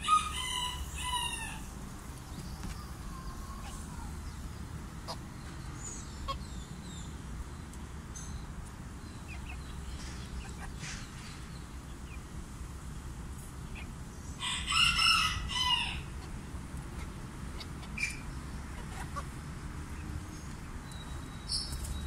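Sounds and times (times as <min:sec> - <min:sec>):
chickens clucking: 0:00.0 - 0:07.9, 0:08.6 - 0:12.7, 0:13.4 - 0:22.0.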